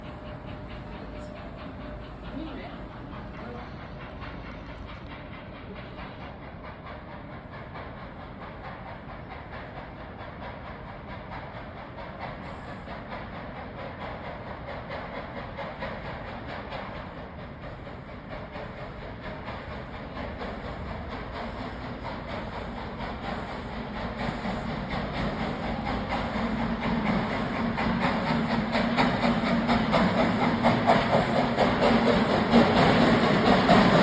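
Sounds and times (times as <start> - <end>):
steam hissing: 0.0 - 34.0
train wheels rattling on track: 0.0 - 34.0.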